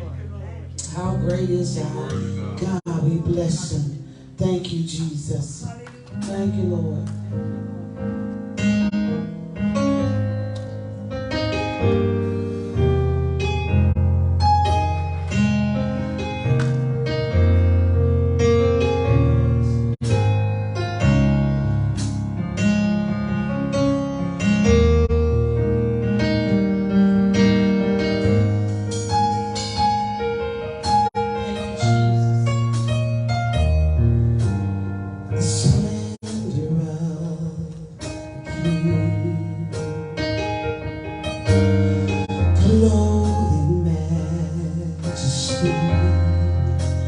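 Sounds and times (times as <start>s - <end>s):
keyboard playing sustained chords: 0.0s - 47.0s.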